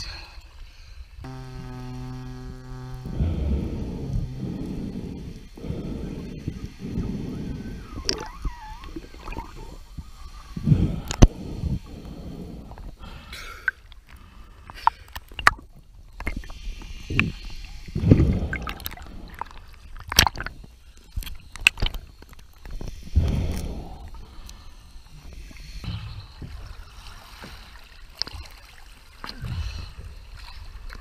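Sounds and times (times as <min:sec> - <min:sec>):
water gurgling and sloshing: 0:01.3 - 0:31.0.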